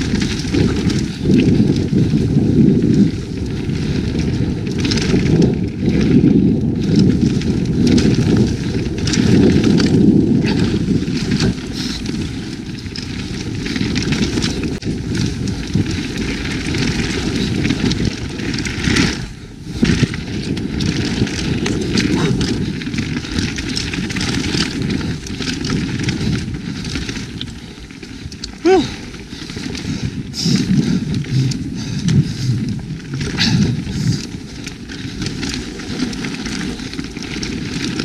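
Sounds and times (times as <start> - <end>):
bike rattling clicks: 0.0 - 38.0
wind rushing over microphone: 0.0 - 38.0.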